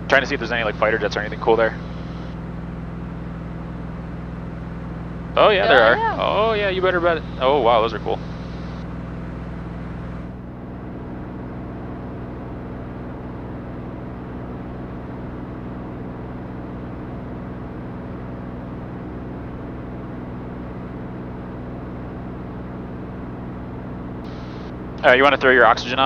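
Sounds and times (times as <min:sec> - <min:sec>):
airplane engine and propeller drone: 0:00.0 - 0:26.0.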